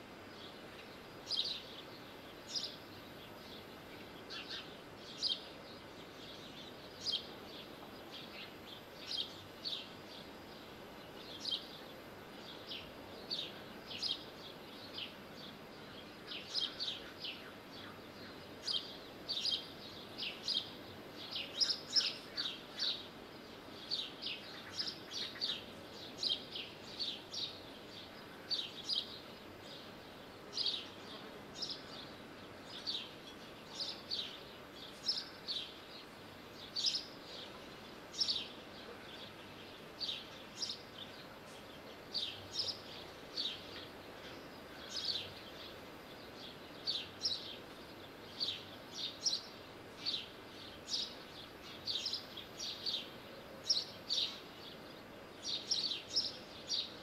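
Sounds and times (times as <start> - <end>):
faint steady hiss: 0.0 - 57.0
small bird chirping: 0.3 - 57.0.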